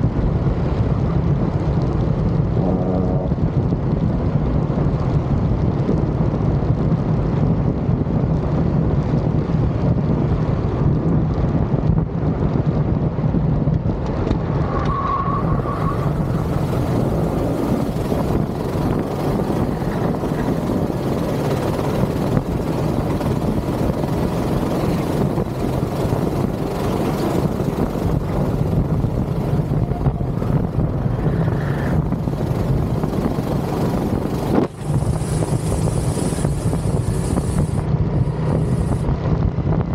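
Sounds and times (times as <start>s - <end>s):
go-kart engine running: 0.0s - 39.9s
wind noise on microphone: 0.0s - 39.9s.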